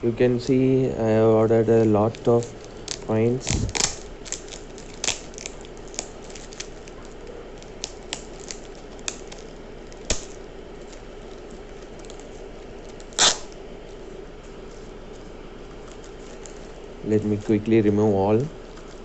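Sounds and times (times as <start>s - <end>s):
faint steady hum: 0.0s - 19.0s
packaging rustling: 1.2s - 19.0s.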